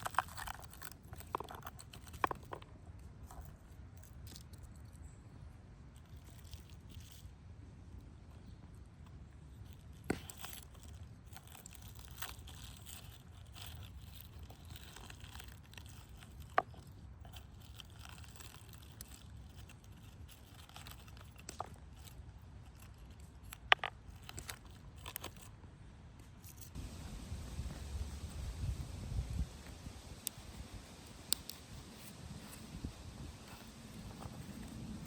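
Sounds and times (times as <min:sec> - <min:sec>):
soft rustling and scraping: 0:00.0 - 0:05.4, 0:06.0 - 0:35.0.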